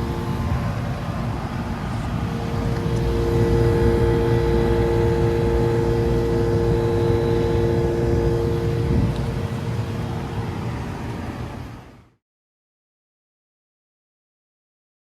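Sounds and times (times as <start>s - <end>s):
compressor hum: 0.0s - 12.0s
condenser fan rushing: 0.0s - 12.1s.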